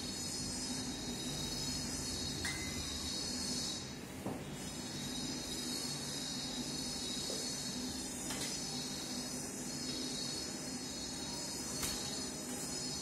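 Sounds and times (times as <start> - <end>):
high-pitched ringing tones: 0.0 - 13.0.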